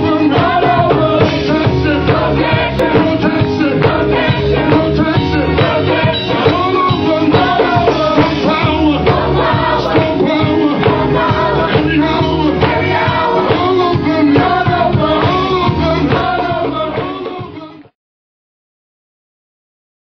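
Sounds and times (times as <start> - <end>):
band accompaniment: 0.0 - 17.9
voices singing gospel: 0.0 - 18.0.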